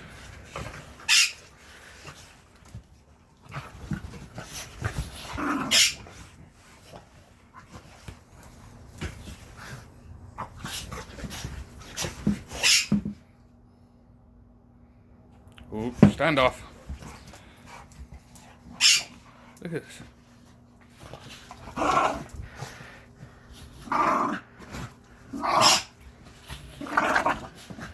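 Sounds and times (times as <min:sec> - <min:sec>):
dogs play-fighting noises: 0:00.0 - 0:13.4, 0:16.6 - 0:27.9.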